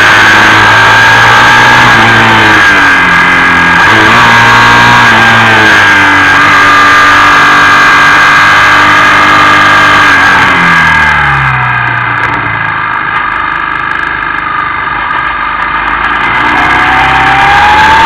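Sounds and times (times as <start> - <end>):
motorcycle engine running hard: 0.0 - 18.0
wind and road noise: 0.0 - 18.0.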